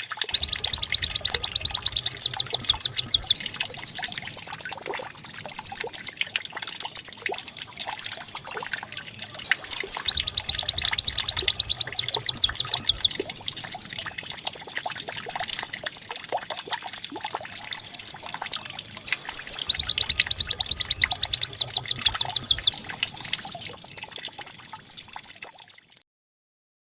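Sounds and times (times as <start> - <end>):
bird song with fast trills: 0.4 - 26.0.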